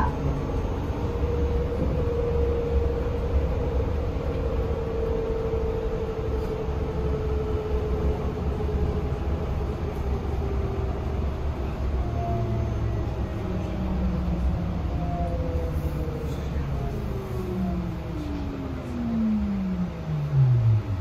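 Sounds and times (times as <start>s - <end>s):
bus rumbling on road: 0.0s - 21.0s.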